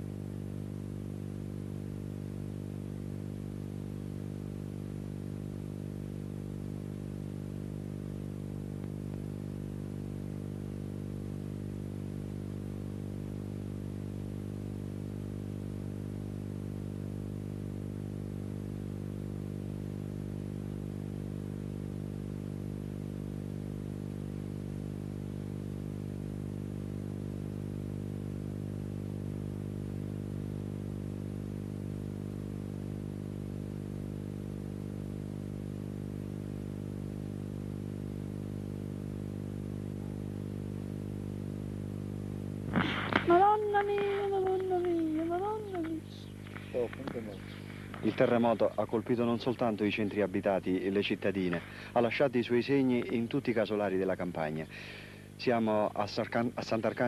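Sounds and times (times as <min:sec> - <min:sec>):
low multi-tone hum: 0:00.0 - 0:57.0.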